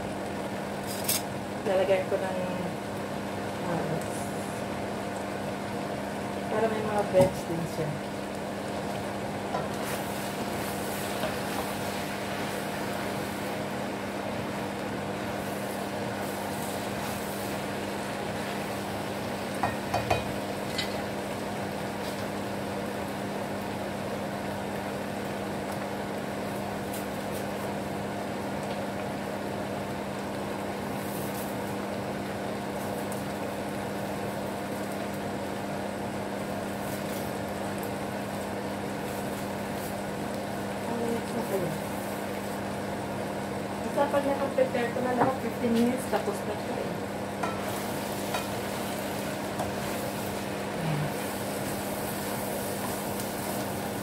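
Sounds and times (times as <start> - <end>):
noodles sizzling in a frying pan: 0.0 - 54.0.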